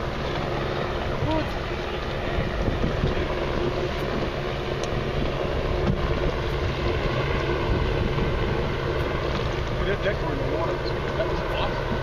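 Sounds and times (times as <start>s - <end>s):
boat motor idling: 0.0s - 12.0s
wind buffeting microphone: 0.0s - 12.0s.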